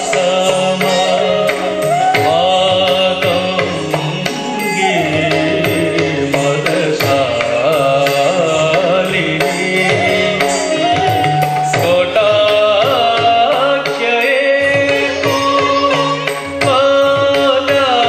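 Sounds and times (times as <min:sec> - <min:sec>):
hand drum rhythm: 0:00.0 - 0:18.0
sliding melodic line: 0:00.0 - 0:18.0.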